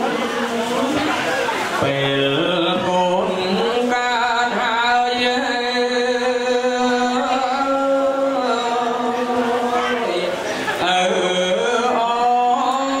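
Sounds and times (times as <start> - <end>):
man chanting into a microphone: 1.8 - 13.0.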